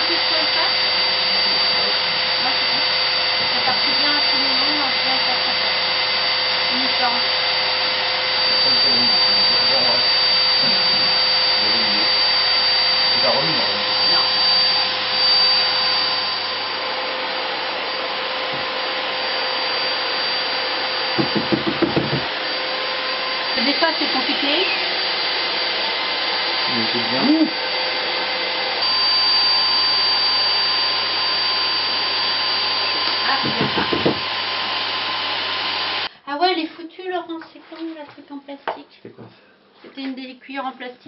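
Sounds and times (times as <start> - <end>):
electric fan-blower running: 0.0 - 36.6.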